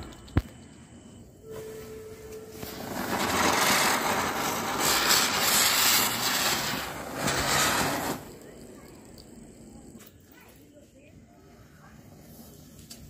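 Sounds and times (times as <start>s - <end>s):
firework spinner fizzing: 2.5s - 13.0s.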